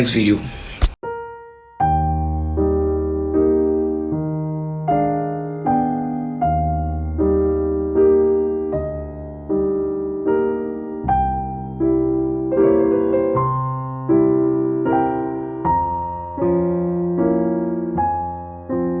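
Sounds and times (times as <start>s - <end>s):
electric piano chords: 1.0s - 19.0s.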